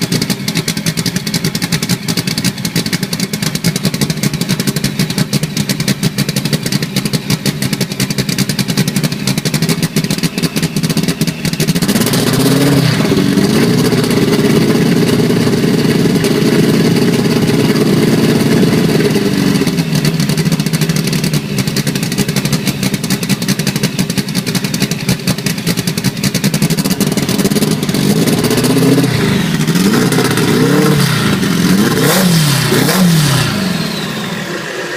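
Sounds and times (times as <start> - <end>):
engine running and revving: 0.0 - 34.9.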